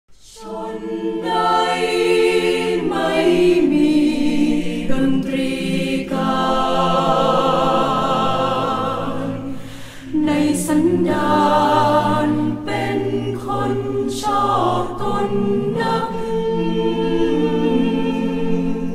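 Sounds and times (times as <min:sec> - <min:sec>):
mixed choir singing in harmony: 0:00.2 - 0:18.9.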